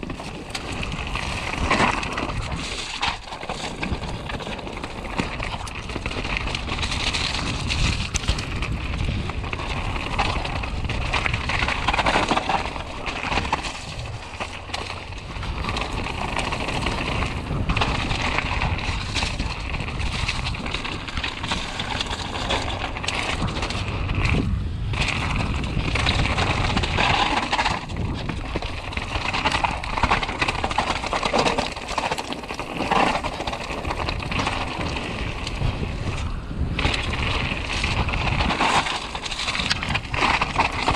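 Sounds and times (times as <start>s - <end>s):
bike rattling over bumps: 0.0s - 40.9s
tyres crunching over loose stones: 0.0s - 40.9s.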